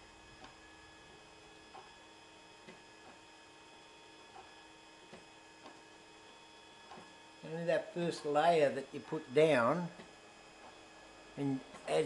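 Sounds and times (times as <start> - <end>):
three-d printer humming: 0.0 - 12.0.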